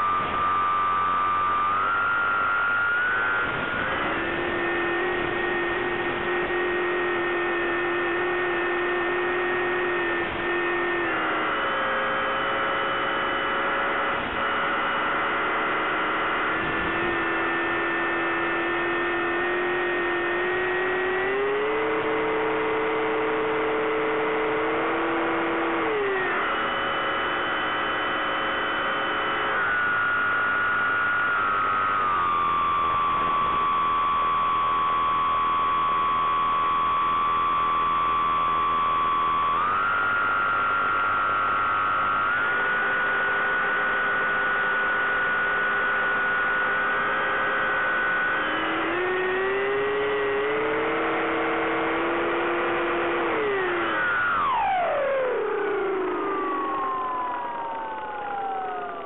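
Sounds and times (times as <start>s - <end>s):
electric motor and propeller humming: 0.0s - 59.0s.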